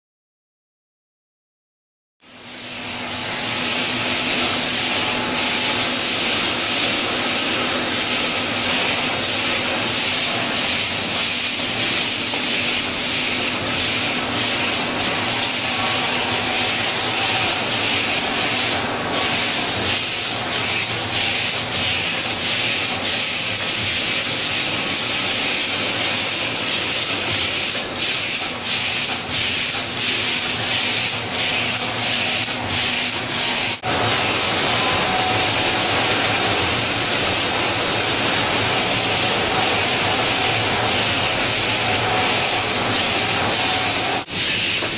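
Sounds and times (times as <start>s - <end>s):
robot machine hiss: 2.4s - 44.9s.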